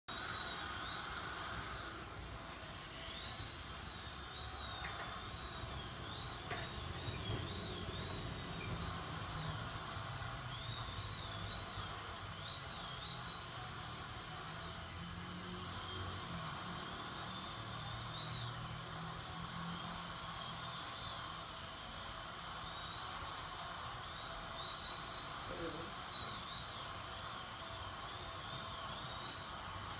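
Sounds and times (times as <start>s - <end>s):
dental drill whine: 0.1s - 29.9s.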